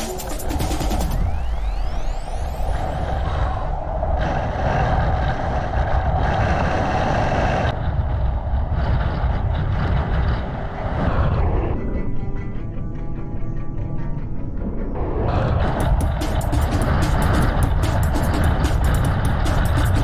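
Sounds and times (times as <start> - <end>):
wind buffeting microphone: 0.5 - 20.0.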